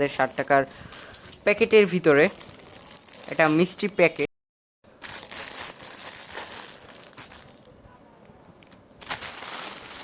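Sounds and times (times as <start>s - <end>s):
plastic packet crinkling: 0.2s - 4.3s, 5.0s - 7.8s, 8.5s - 10.0s.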